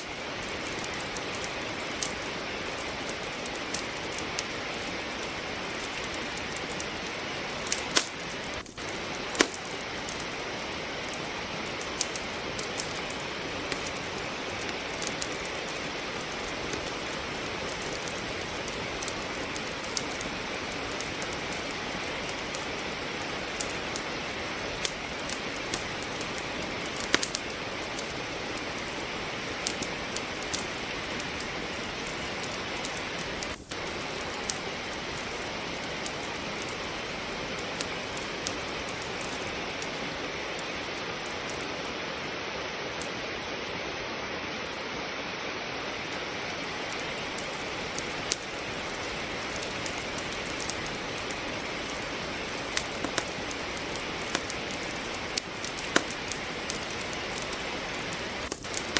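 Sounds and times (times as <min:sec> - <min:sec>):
rain falling: 0:00.0 - 0:58.9
wood fire crackling: 0:00.0 - 0:58.9.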